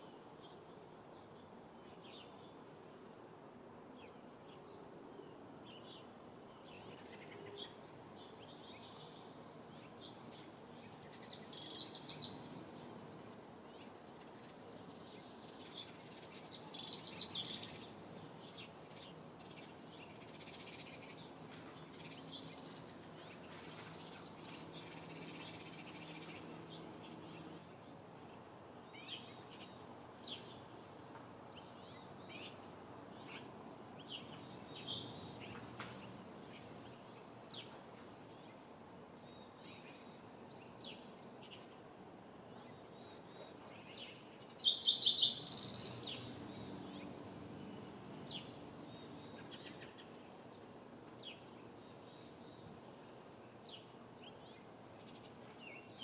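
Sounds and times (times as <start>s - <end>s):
low background noise: 0.0s - 56.0s
songbirds chirping: 0.0s - 56.0s.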